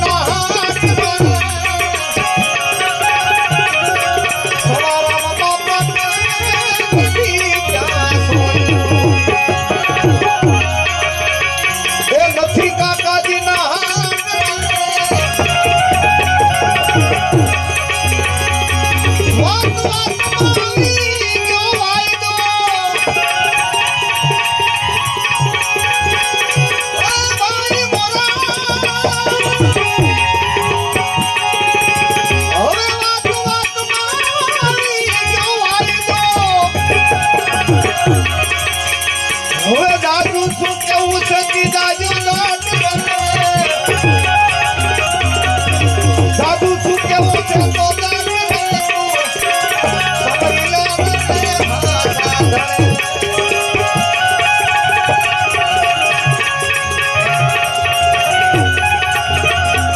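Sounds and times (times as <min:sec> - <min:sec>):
devotional song music: 0:00.0 - 0:59.9
sustained instrumental tones: 0:00.0 - 0:59.9
tabla drumming: 0:00.0 - 0:59.9.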